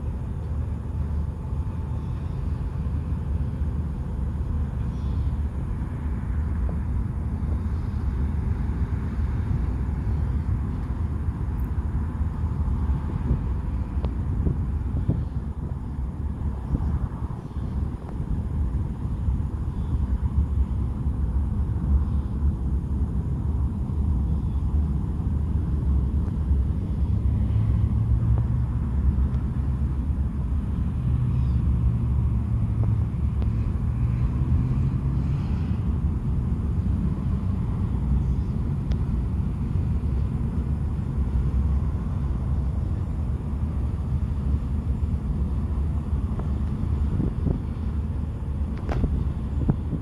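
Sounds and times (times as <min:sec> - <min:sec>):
ship diesel engine rumble: 0:00.0 - 0:50.0.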